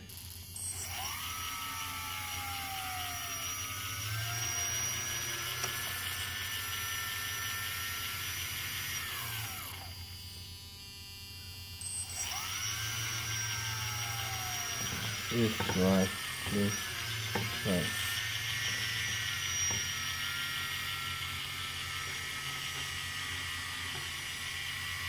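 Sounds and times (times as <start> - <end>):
electric motors whining: 0.0 - 25.0
steady buzz: 0.0 - 25.0.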